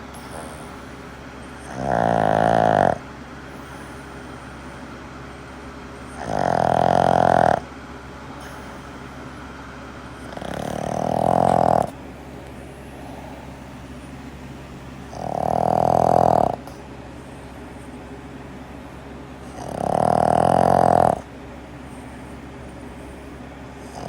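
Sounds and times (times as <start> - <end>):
dog snoring loudly: 0.0 - 24.0.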